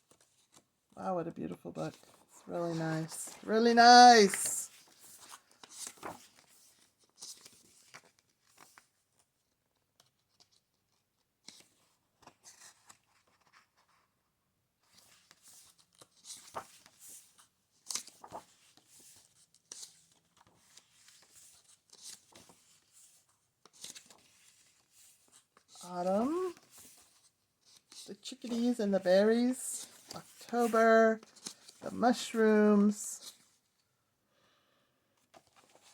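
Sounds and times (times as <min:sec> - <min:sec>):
book pages turning: 0:01.9 - 0:09.3, 0:10.0 - 0:14.0, 0:14.8 - 0:33.7, 0:35.2 - 0:35.9.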